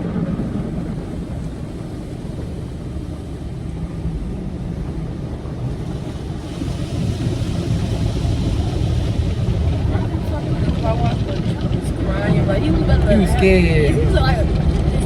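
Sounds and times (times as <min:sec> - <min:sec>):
water spraying hiss: 0:00.0 - 0:14.2
car wash low rumble: 0:00.0 - 0:15.0.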